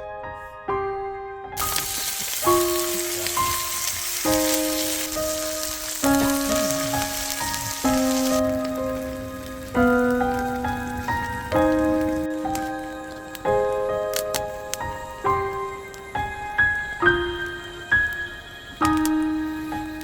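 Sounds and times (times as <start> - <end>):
slow piano chords: 0.0 - 20.0
steady hiss: 1.6 - 20.0.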